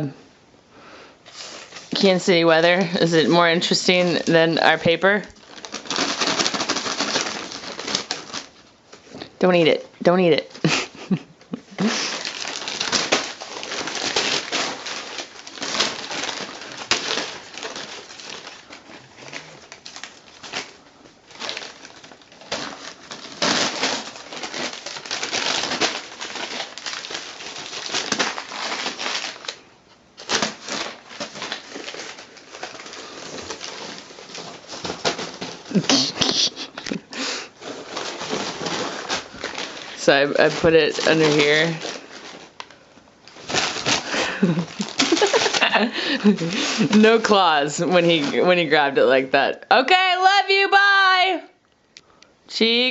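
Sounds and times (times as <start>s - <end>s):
paper flyer rustling and crinkling: 1.3s - 51.4s.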